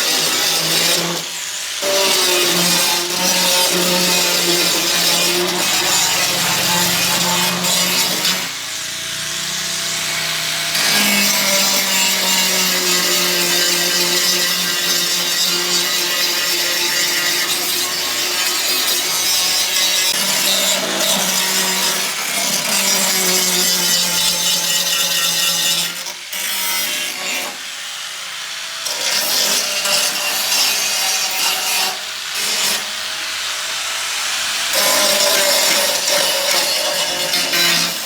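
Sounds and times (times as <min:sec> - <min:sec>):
saw rasping through wood: 0:00.0 - 0:28.2, 0:28.9 - 0:38.0.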